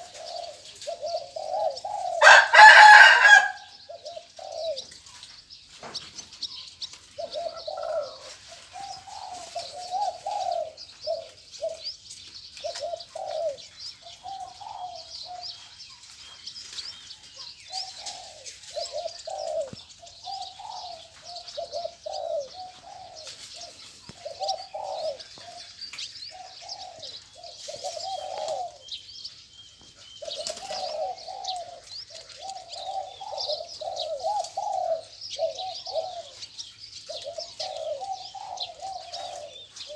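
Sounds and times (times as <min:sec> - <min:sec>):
doves cooing: 0:00.0 - 0:05.2, 0:06.9 - 0:12.0, 0:12.6 - 0:15.7, 0:17.5 - 0:29.1, 0:30.0 - 0:39.9
small birds chirping: 0:00.0 - 0:39.9.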